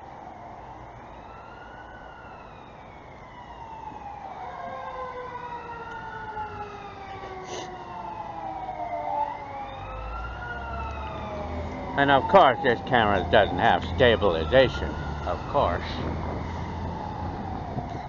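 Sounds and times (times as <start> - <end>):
sirens wailing: 0.0 - 18.0.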